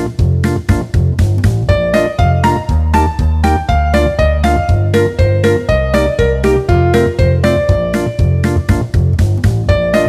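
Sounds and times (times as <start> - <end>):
steady bass beat: 0.0 - 10.0
keyboard notes: 1.7 - 10.0
plucked guitar: 1.7 - 10.0.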